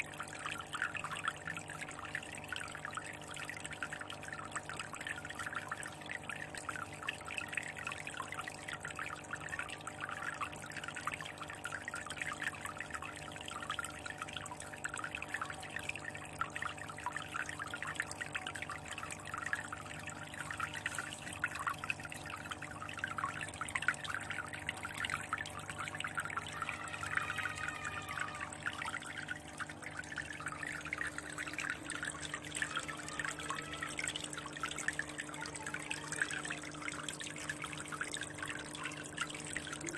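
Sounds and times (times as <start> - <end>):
aquarium water splashing: 0.0 - 39.9
water gurgle: 0.0 - 39.9.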